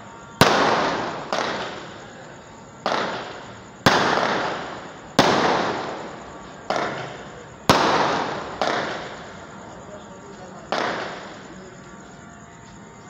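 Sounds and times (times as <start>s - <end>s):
fireworks bursting with echoes: 0.0s - 12.8s.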